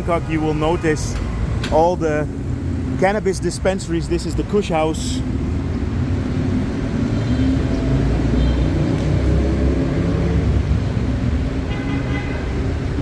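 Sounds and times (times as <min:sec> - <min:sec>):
vehicle engine rumbling close by: 0:00.0 - 0:11.7
road traffic din: 0:00.0 - 0:13.0.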